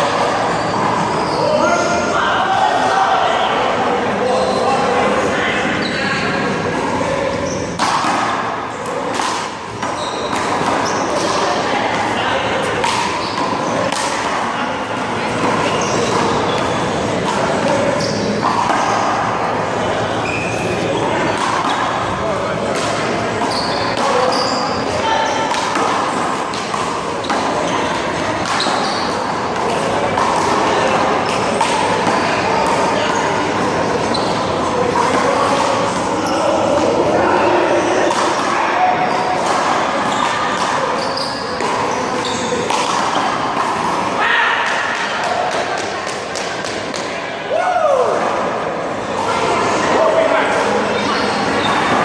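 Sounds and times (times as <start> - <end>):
faint voices: 0.0 - 52.0
noisy background: 0.0 - 52.0.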